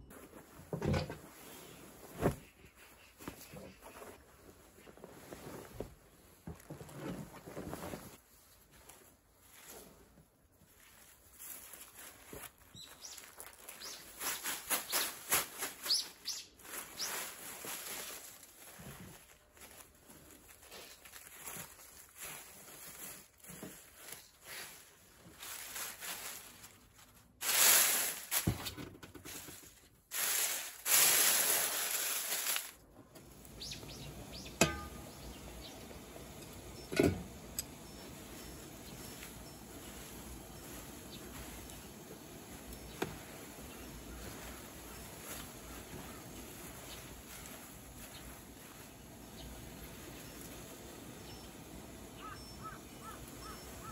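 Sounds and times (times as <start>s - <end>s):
cloth and tea leaves rustling: 0.0s - 53.9s.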